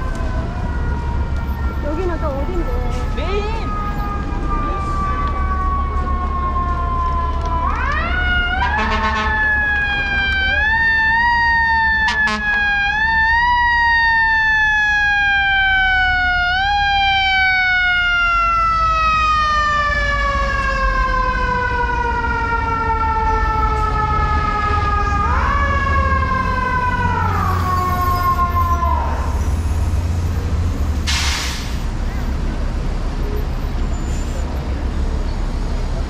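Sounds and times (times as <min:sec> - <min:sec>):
fire truck siren wailing: 0:00.0 - 0:32.4.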